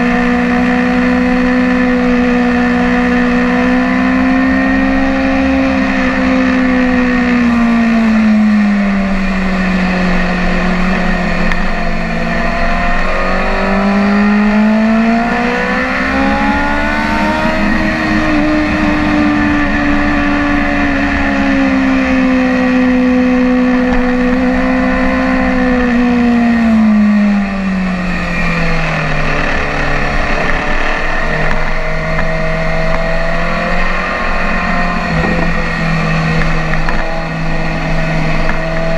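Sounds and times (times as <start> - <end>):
sport bike engine running hard: 0.0 - 38.9
wind noise: 0.0 - 38.9.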